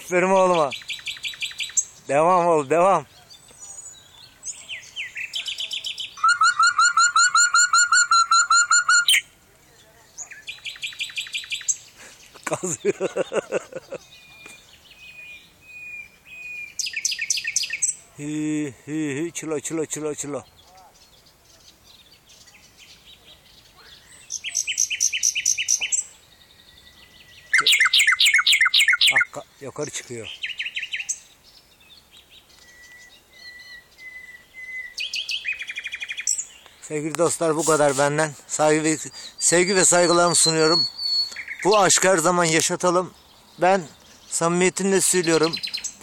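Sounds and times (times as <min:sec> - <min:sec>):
nightingale singing: 0:00.0 - 0:18.5, 0:19.1 - 0:46.0.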